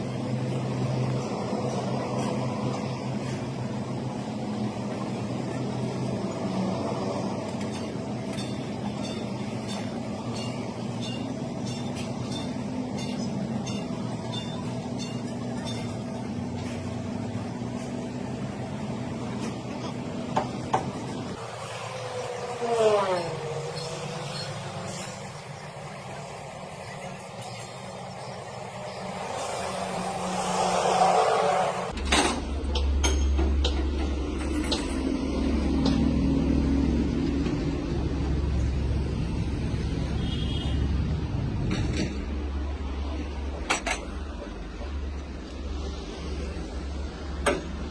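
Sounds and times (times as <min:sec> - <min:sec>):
low engine drone: 0:00.0 - 0:47.9.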